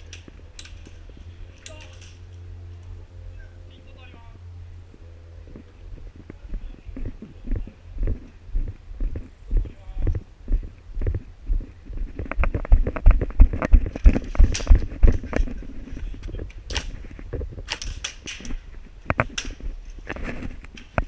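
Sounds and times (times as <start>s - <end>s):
footsteps: 3.7s - 21.0s.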